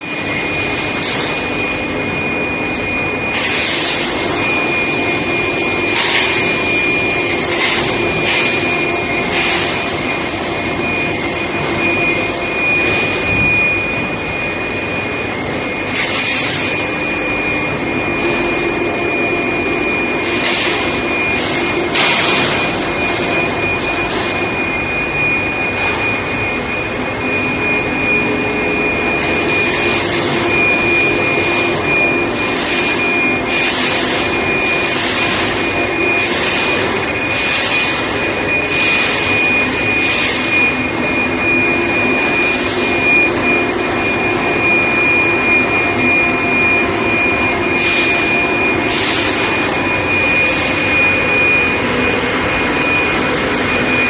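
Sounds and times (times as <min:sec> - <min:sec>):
dense machine noise: 0:00.0 - 0:54.0
high-pitched machine whine: 0:00.0 - 0:54.0.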